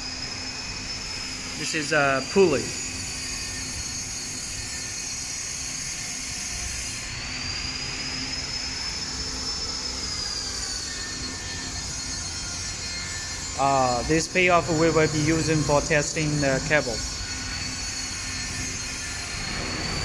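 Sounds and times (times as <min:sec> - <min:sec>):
high-pitched whine: 0:00.0 - 0:20.0
factory machinery humming: 0:00.2 - 0:05.2, 0:08.9 - 0:20.0.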